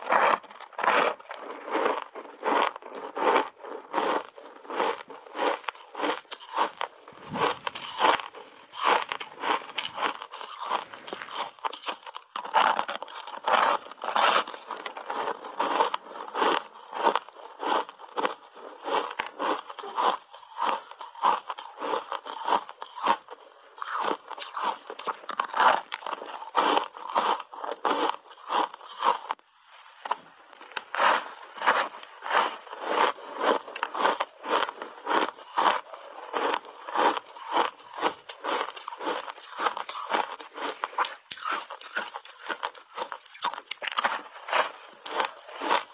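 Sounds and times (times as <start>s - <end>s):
ice being crunched: 0.0s - 45.9s.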